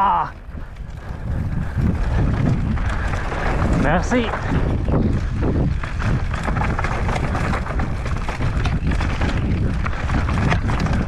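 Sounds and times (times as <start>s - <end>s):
bike tyres clattering on rocky trail: 0.0s - 11.0s
wind buffeting microphone: 0.0s - 11.0s.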